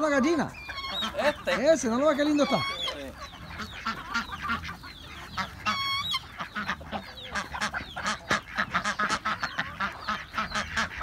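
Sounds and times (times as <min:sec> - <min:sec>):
poultry flock calling: 0:00.0 - 0:11.0.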